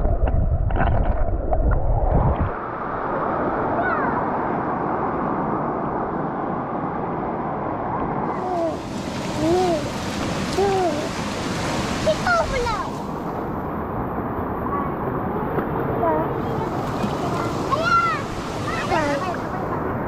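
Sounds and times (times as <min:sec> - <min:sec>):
water flowing in a stream: 0:00.0 - 0:20.0.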